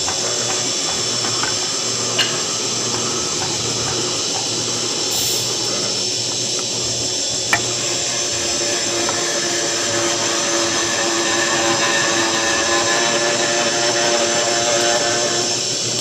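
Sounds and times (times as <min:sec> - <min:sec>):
mortising machine motor whine: 0:00.0 - 0:16.0.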